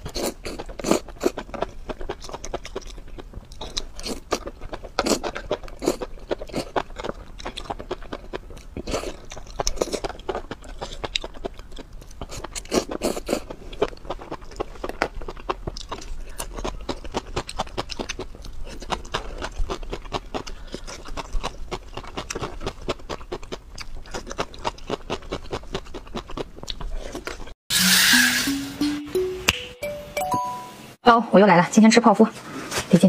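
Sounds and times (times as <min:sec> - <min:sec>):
crunchy bites: 0:00.0 - 0:27.5
wet chewing and mouth smacks: 0:00.0 - 0:27.6.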